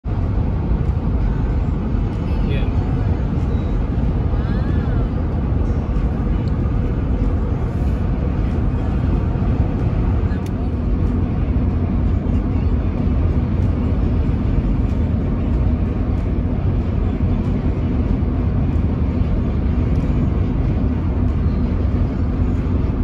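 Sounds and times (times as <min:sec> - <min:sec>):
car driving at highway speed: 0:00.0 - 0:23.0.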